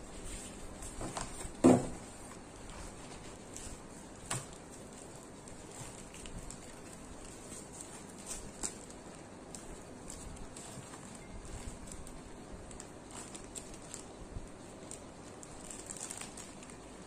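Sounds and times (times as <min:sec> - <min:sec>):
mailers rustling: 0:00.0 - 0:17.0
plastic mailer being handled: 0:00.0 - 0:17.0.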